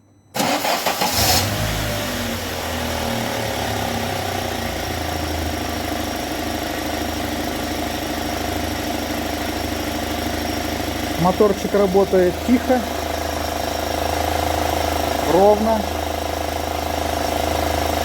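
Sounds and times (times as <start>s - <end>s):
car engine idling: 0.4s - 18.0s.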